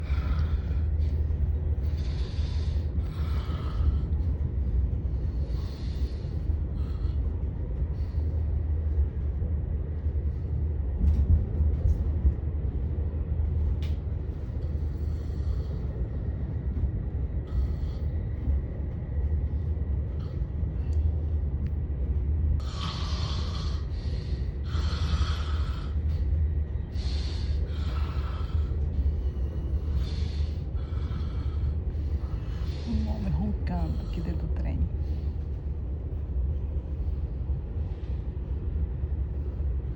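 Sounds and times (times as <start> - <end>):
moving train rumble: 0.0 - 39.9.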